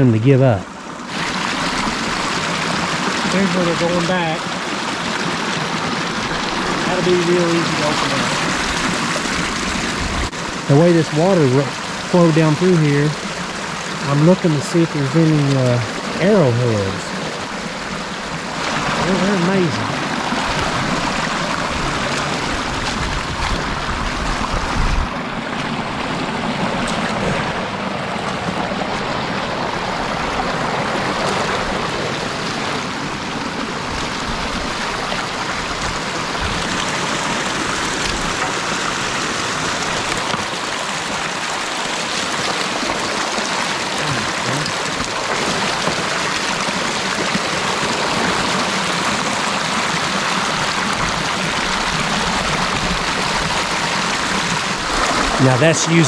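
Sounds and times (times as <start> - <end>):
creek water rushing and splashing: 0.0 - 56.0.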